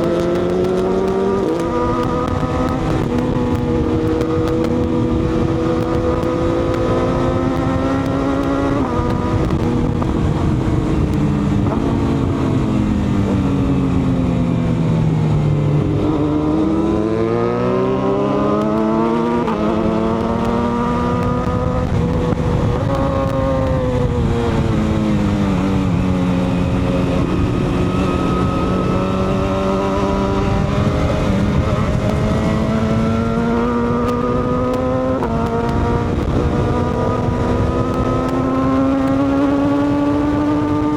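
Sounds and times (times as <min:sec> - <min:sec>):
motorcycle engine: 0:00.0 - 0:40.9
wind noise: 0:00.0 - 0:40.9.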